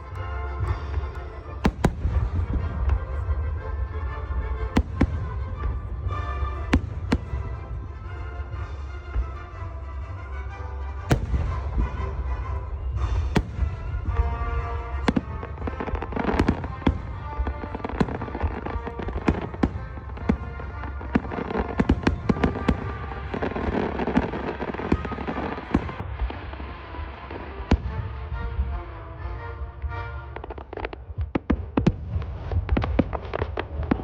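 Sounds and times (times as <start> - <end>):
music playing: 0.0 - 31.4
fireworks bangs and crackles: 0.0 - 34.0.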